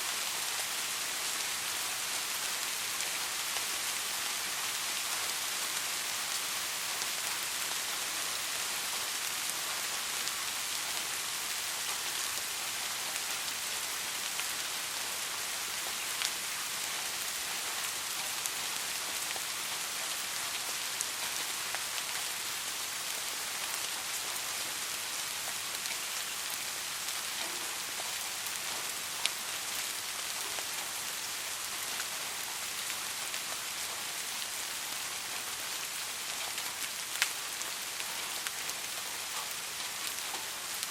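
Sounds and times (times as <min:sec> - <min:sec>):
steady soft rain: 0:00.0 - 0:40.9.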